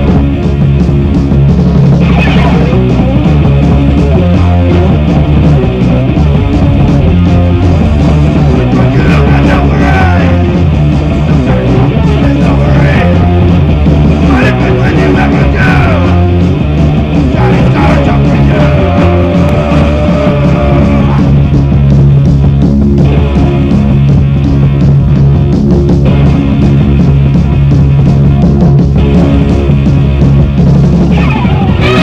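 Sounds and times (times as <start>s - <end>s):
punk rock band on radio: 0.0s - 32.0s.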